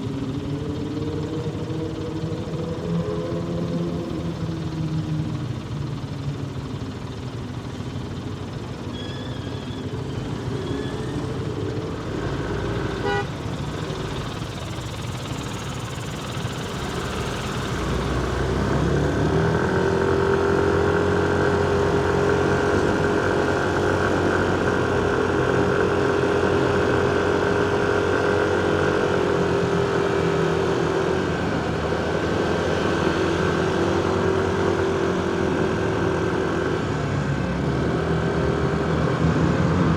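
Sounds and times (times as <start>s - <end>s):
motorcycle engine: 0.0s - 39.9s
traffic vehicles: 0.0s - 39.9s.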